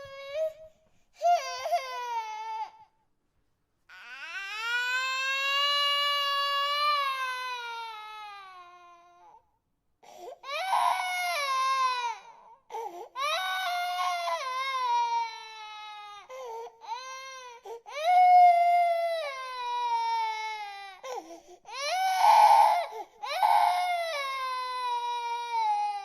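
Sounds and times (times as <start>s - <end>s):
infant crying: 0.0s - 2.9s, 3.9s - 9.4s, 10.1s - 26.0s.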